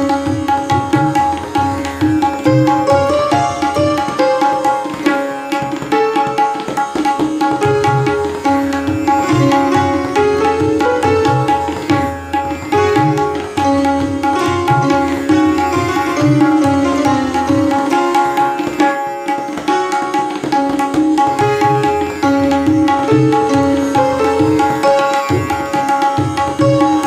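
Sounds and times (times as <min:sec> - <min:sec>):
tabla fast strokes: 0:00.0 - 0:27.0
tanpura drone: 0:00.0 - 0:27.0.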